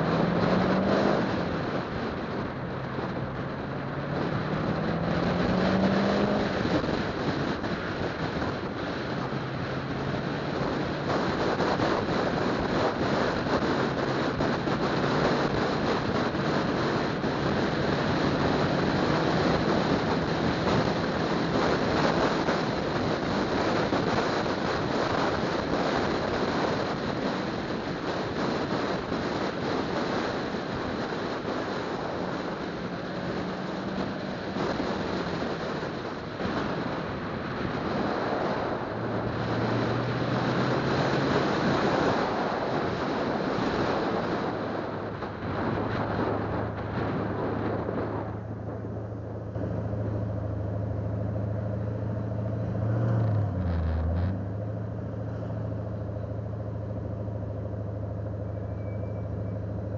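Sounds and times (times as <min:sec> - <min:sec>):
car engine hum: 0:00.0 - 0:59.9
road and wind noise: 0:00.0 - 0:59.9.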